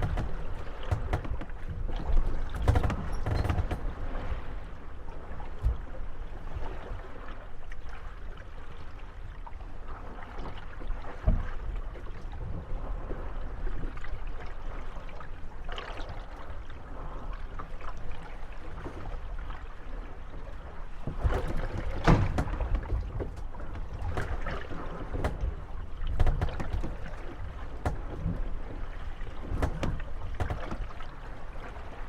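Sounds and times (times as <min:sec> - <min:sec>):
wooden boats creaking and knocking: 0:00.0 - 0:07.4, 0:10.1 - 0:32.0
water lapping against hulls: 0:00.0 - 0:32.0.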